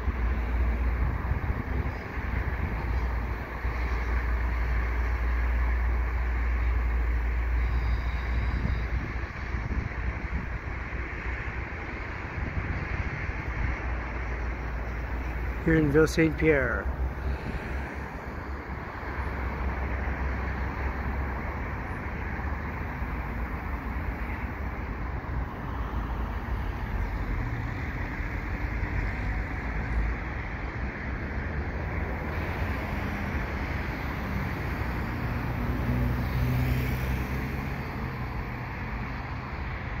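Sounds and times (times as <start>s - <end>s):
low engine hum: 0.0s - 40.0s
road traffic roar: 0.0s - 40.0s.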